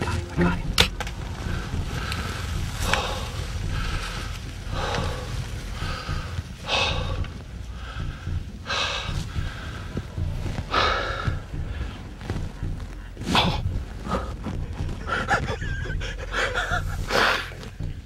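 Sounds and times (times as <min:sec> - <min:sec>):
low steady rumble: 0:00.0 - 0:18.0
person breathing hard: 0:01.4 - 0:12.6, 0:13.3 - 0:17.7.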